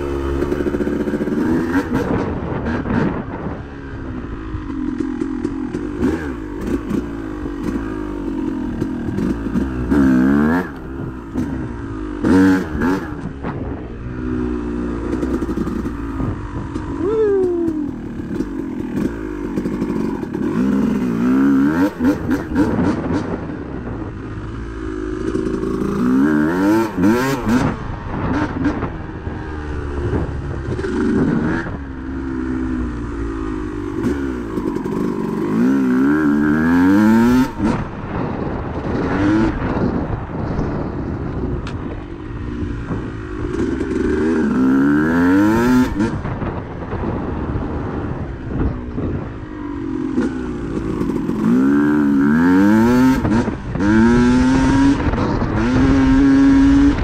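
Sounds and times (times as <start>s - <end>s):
dirt bike engine revving: 0.0s - 40.1s, 42.4s - 49.2s, 49.8s - 57.0s.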